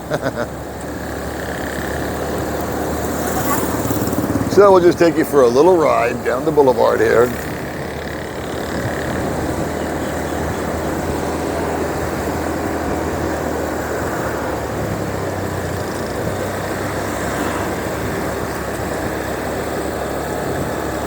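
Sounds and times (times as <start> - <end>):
motorbike engine running: 0.0 - 21.0
wind rushing on microphone: 0.9 - 21.0.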